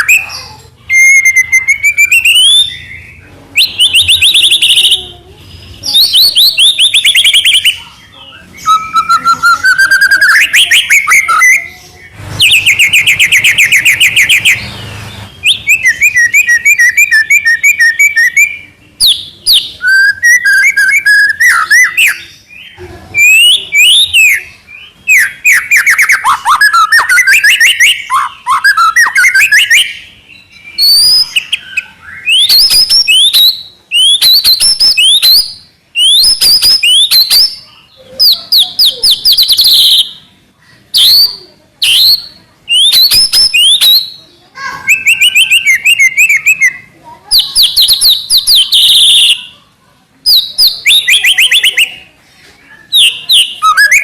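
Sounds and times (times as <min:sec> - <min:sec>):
songbird singing trills and whistles: 0:00.0 - 0:54.0.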